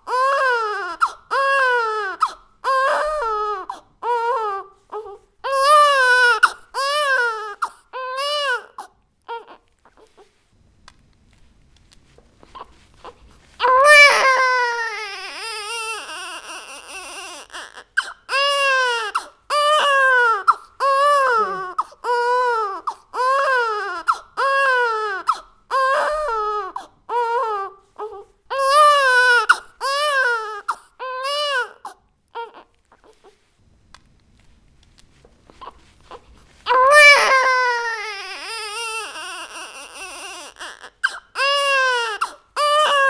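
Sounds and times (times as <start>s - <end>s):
baby crying: 0.0s - 10.2s, 12.6s - 33.3s, 35.6s - 43.0s.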